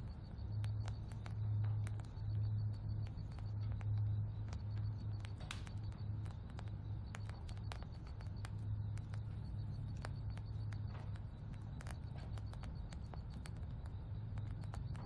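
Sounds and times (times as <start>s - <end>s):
faint clicks and ticks: 0.0s - 15.0s
steady low hum: 0.0s - 15.0s.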